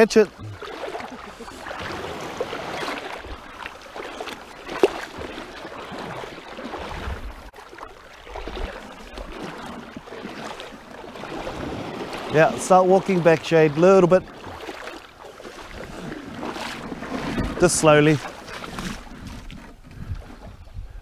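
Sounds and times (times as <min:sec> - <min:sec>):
shallow water sloshing and splashing: 0:00.0 - 0:21.0.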